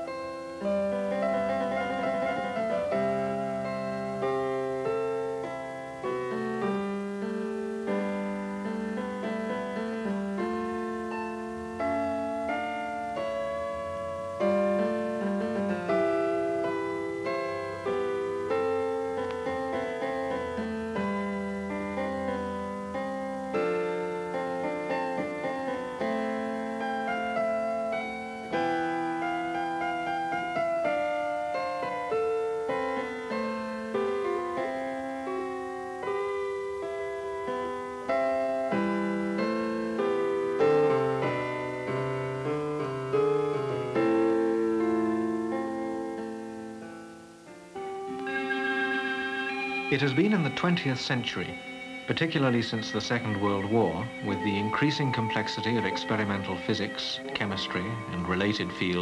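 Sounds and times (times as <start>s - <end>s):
solo piano music: 0.0s - 59.0s.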